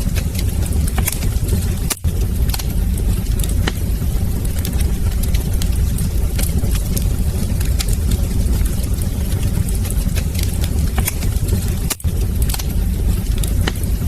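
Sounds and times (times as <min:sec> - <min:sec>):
fire crackling and popping: 0:00.0 - 0:14.0
fire roaring: 0:00.0 - 0:14.0.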